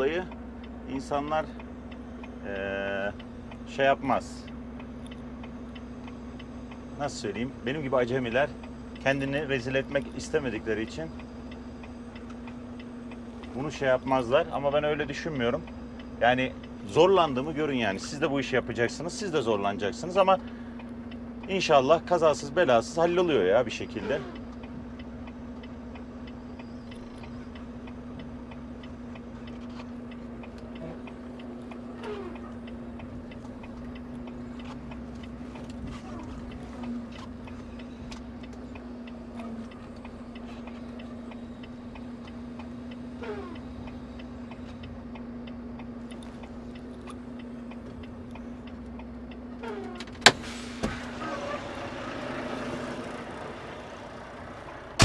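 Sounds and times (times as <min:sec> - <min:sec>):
faint regular ticking: 0:00.0 - 0:50.8
truck engine running: 0:00.0 - 0:55.0.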